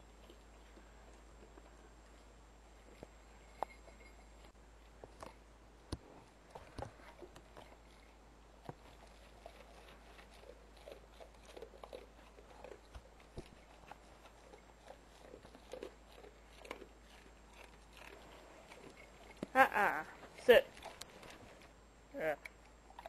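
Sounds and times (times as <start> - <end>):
dog chewing: 0.0 - 21.8, 22.5 - 23.0.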